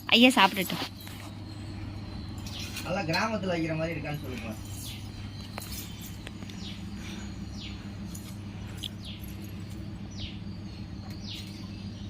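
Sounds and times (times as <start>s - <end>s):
steady low hum: 0.0s - 12.0s
bird chirping: 0.2s - 12.0s.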